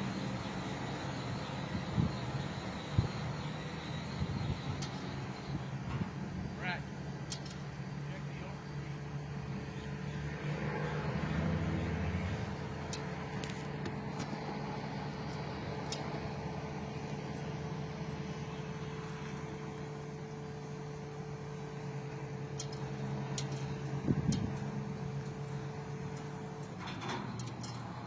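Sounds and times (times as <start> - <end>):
engine humming with whine: 0.0 - 28.0.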